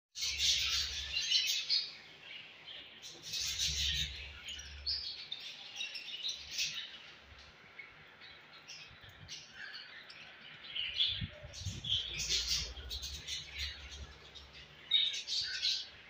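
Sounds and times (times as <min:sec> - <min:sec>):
budgerigars chattering and chirping: 0:00.2 - 0:16.0.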